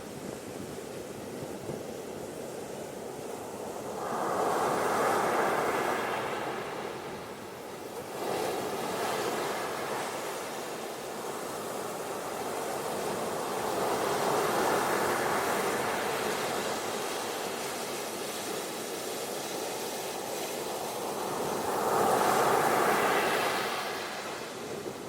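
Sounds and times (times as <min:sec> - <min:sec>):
ocean surf washing onto beach: 0:03.0 - 0:25.0.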